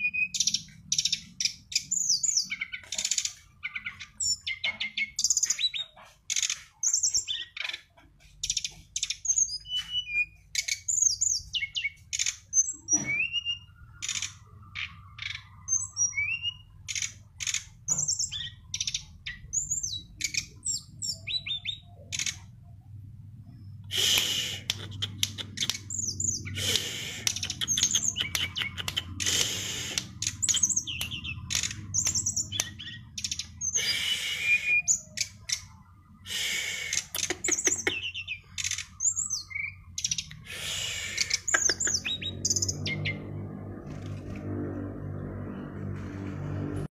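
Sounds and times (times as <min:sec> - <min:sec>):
songbird singing: 0:00.0 - 0:46.3.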